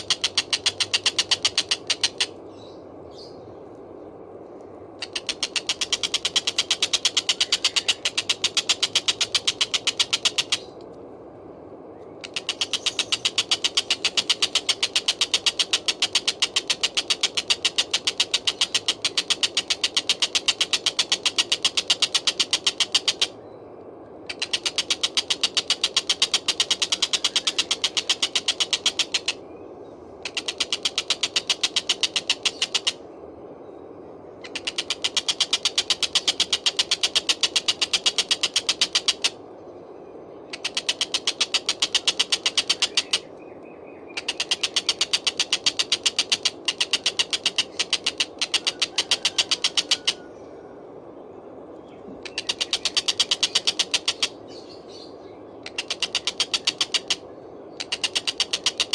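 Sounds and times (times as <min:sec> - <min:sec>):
kingfisher rattling call: 0:00.0 - 0:02.6, 0:05.0 - 0:10.8, 0:12.2 - 0:23.4, 0:24.2 - 0:29.5, 0:30.2 - 0:33.1, 0:34.3 - 0:39.6, 0:40.4 - 0:43.4, 0:44.0 - 0:50.3, 0:52.2 - 0:58.9.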